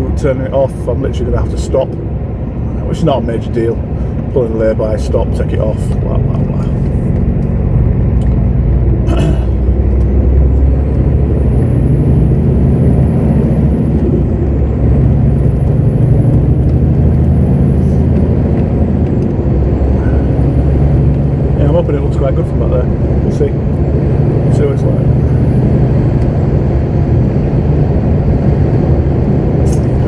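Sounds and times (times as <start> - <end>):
truck diesel engine running: 0.0 - 30.0.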